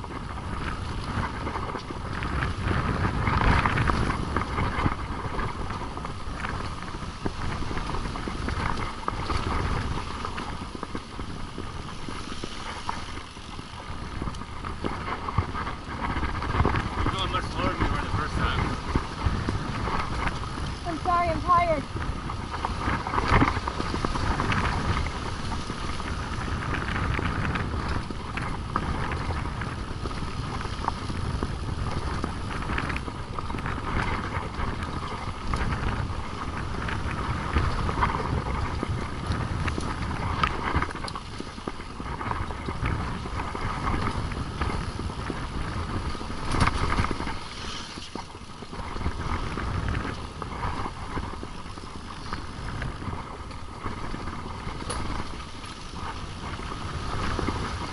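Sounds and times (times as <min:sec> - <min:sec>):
bikes rattling and knocking: 0:00.0 - 0:57.9
tyres rolling on dirt: 0:00.0 - 0:57.9.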